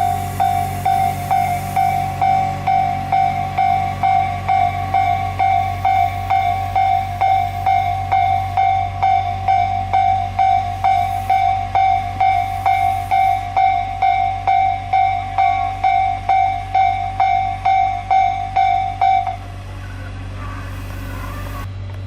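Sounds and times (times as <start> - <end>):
level crossing alarm clanging: 0.0 - 21.7.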